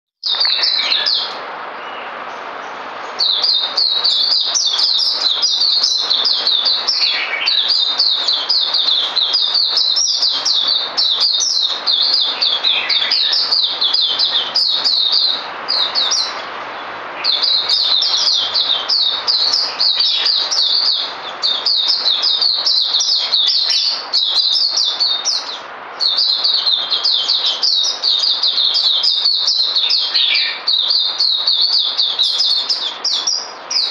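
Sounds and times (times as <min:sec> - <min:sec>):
birds twittering rapidly: 0:00.1 - 0:33.9.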